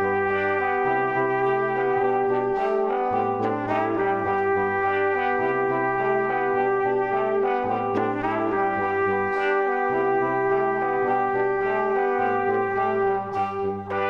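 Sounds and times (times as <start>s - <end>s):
low bass line: 0.0s - 14.0s.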